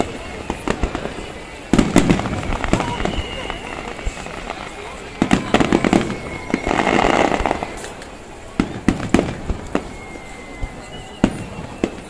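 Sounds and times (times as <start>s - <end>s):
firework sharp bangs: 0.0s - 12.0s.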